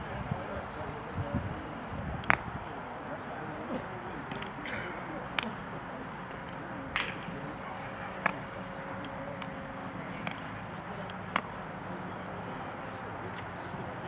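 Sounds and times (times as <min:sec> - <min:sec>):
faint steady hum: 0:00.0 - 0:14.0
outdoor background noise: 0:00.0 - 0:14.0.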